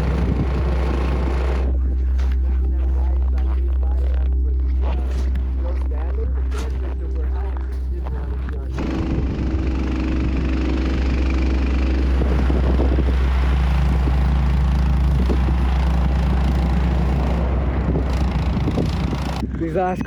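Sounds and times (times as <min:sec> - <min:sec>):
vehicle engine running: 0:00.0 - 0:19.5.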